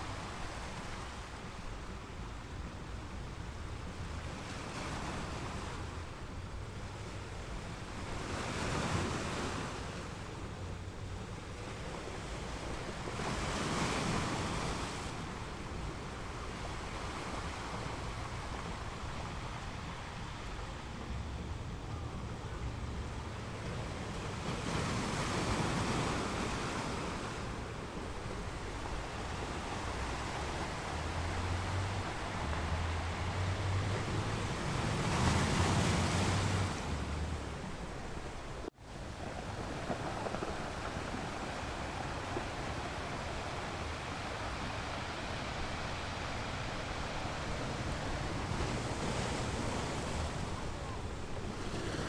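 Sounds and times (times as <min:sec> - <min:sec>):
small waves breaking on beach: 0:00.0 - 0:52.0.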